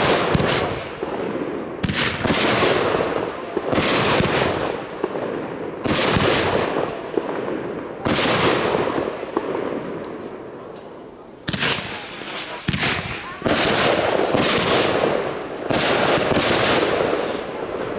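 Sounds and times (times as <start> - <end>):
fireworks bursting: 0.0 - 17.9.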